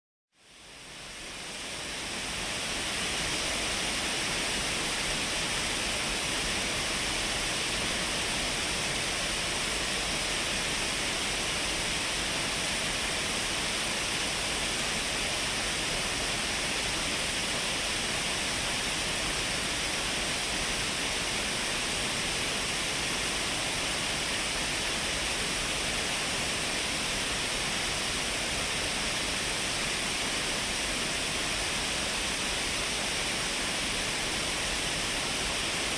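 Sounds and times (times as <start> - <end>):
waterfall rushing: 1.4 - 35.9.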